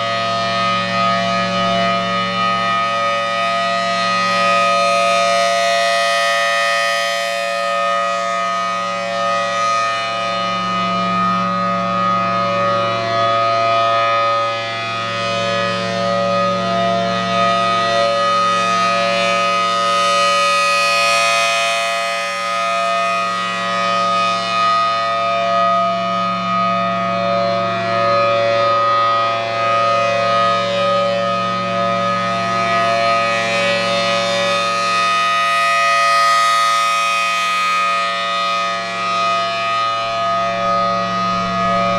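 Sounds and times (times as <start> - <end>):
rotating warning siren: 0.0 - 41.9.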